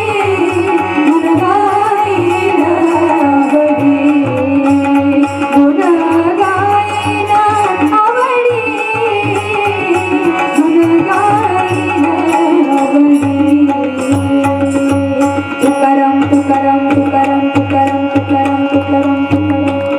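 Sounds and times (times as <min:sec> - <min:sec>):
hand drum: 0:00.0 - 0:19.9
woman singing: 0:00.0 - 0:19.9.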